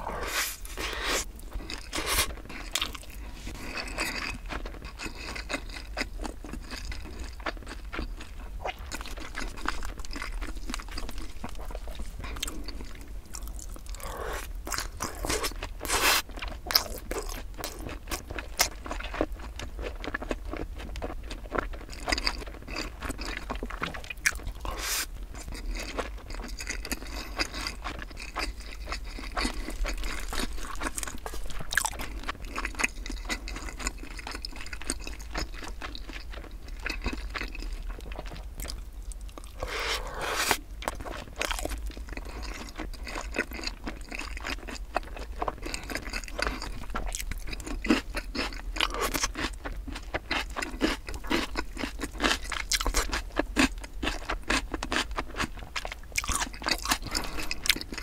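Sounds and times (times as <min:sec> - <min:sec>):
wet chewing crunches: 0:00.0 - 0:58.0.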